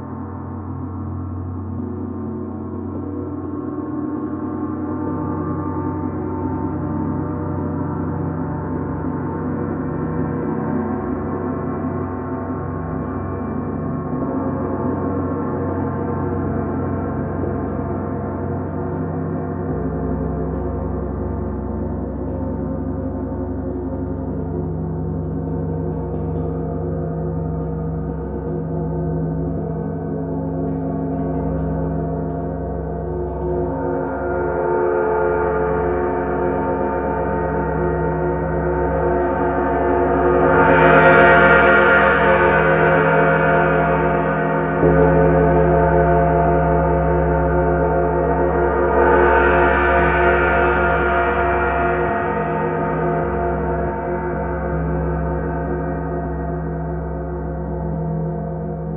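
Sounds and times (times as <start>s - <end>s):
big gong deep hum: 0.0s - 58.9s.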